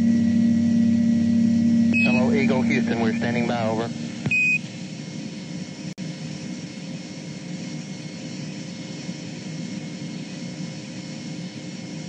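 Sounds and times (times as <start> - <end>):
faint steady hum: 0.0 - 12.0
radio hiss and rumble: 1.9 - 12.0.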